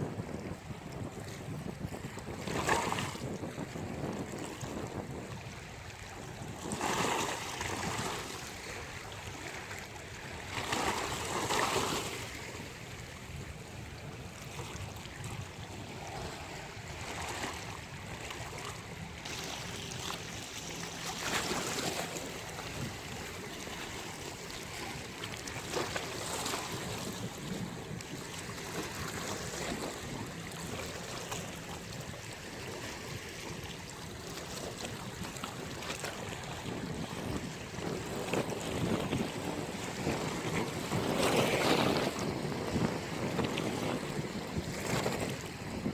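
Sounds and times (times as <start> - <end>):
wind: 0.0 - 45.9.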